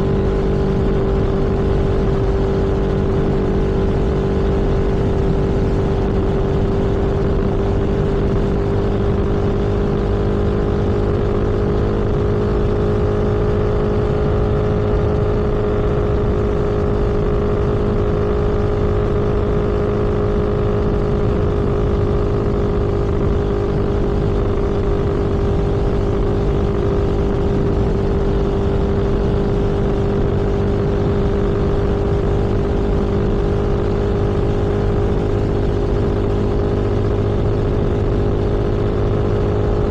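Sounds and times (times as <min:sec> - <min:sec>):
road and wind noise: 0:00.0 - 0:39.9
vehicle engine drone: 0:00.0 - 0:39.9.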